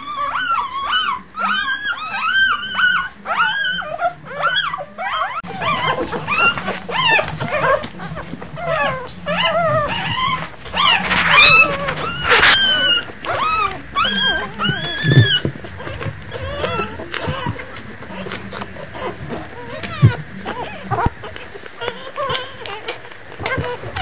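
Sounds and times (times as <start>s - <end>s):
puppies squeaking and whimpering: 0.0s - 24.0s.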